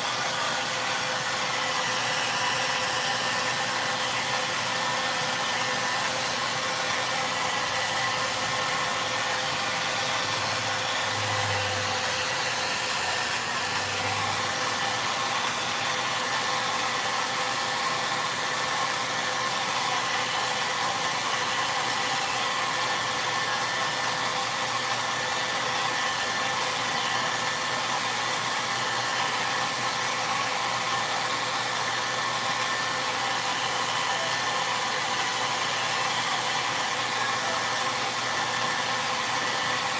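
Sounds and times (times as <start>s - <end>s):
hair dryer air rush: 0.0s - 39.9s.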